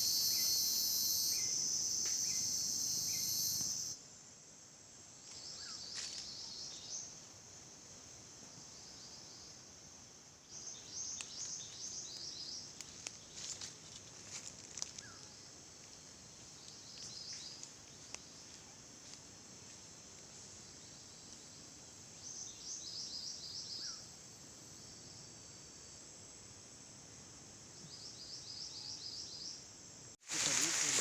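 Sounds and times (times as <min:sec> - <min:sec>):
forest ambience: 0:00.0 - 0:31.0.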